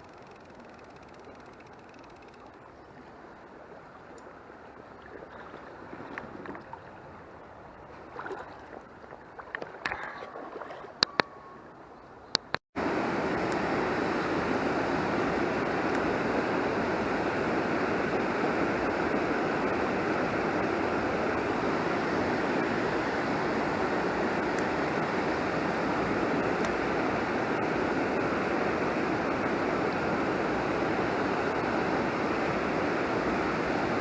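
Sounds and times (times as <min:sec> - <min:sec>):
stream flowing: 0:00.0 - 0:34.0.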